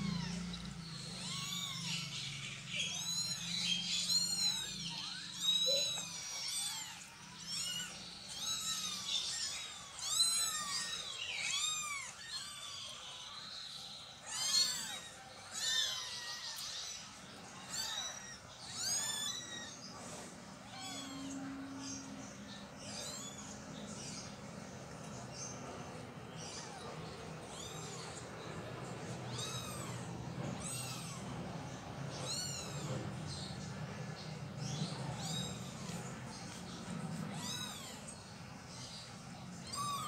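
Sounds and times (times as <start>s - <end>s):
kittens mewing: 0.0s - 40.0s.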